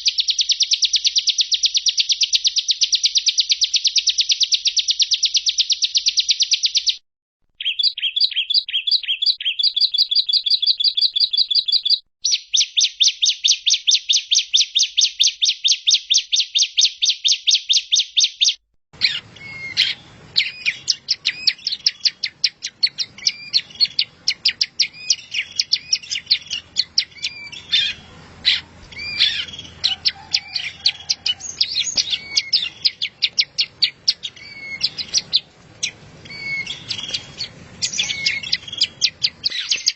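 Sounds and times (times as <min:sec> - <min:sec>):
bird chirps and trills: 0:00.0 - 0:07.0, 0:07.6 - 0:39.9.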